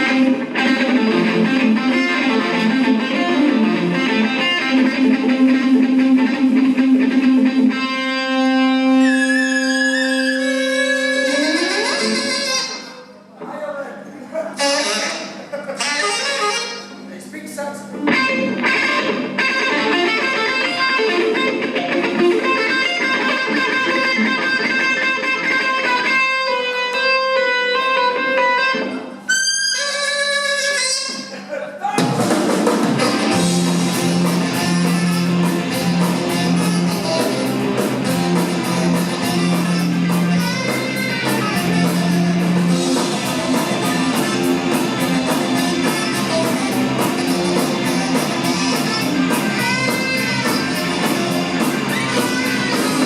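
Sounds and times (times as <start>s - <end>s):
electric guitar strumming: 0.0s - 13.4s, 14.5s - 17.2s, 17.8s - 53.0s
live rock band: 0.0s - 13.6s, 14.5s - 53.0s.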